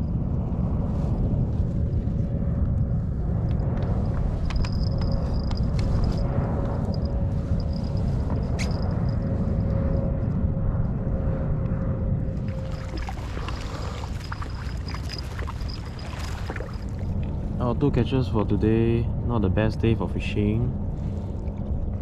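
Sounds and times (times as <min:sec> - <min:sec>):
faint steady hum: 0:00.0 - 0:22.0
wind buffeting microphone: 0:00.0 - 0:22.0.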